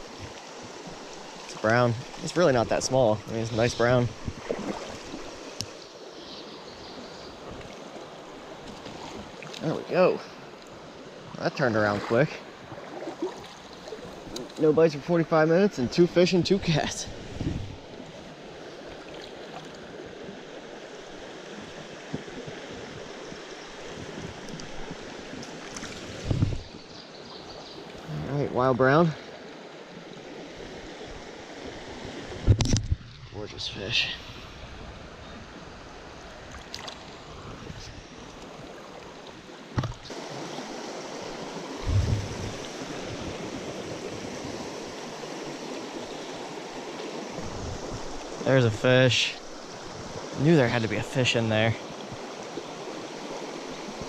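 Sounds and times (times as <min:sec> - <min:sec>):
stream water running over rocks: 0:00.0 - 0:34.2, 0:35.2 - 0:54.0.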